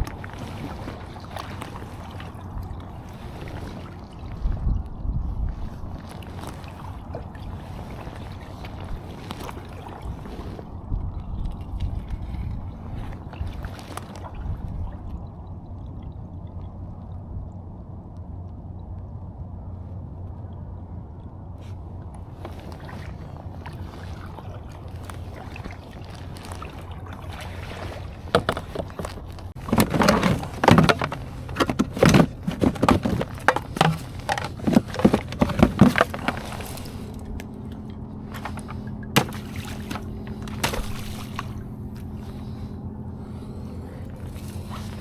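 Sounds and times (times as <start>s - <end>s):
steady low hum: 0.0s - 45.0s
water splashing around a kayak: 0.0s - 45.0s.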